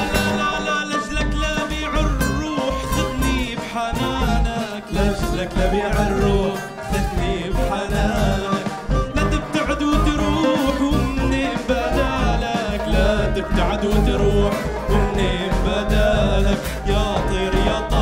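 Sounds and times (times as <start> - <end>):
cane flute melody: 0.0 - 18.0
drum kit: 0.0 - 18.0
saxophones: 0.0 - 18.0
sousaphone and bass guitar bass line: 0.0 - 18.0.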